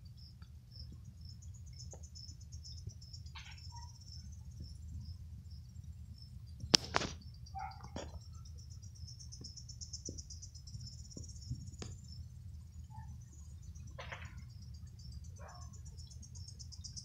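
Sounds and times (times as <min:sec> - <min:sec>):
crickets chirping: 0:00.0 - 0:17.0
low background rumble: 0:00.0 - 0:17.0.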